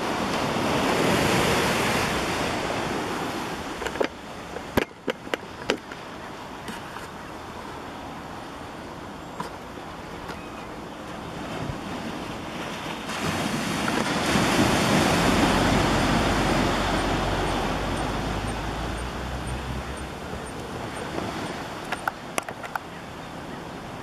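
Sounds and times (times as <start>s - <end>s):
ocean wave washing ashore: 0.0s - 24.0s.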